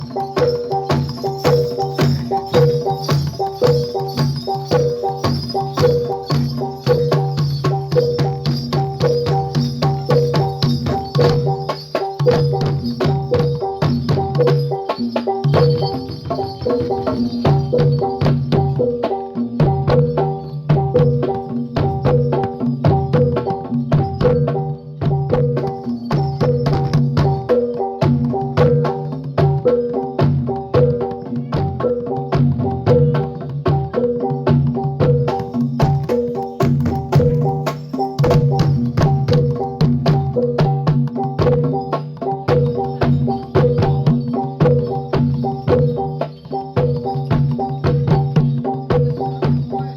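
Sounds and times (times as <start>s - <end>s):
drum: 0.0s - 49.9s
gamelan music: 0.0s - 49.9s
ringing pitched metal tones: 0.0s - 49.9s
tuned metal percussion strikes: 0.0s - 49.9s.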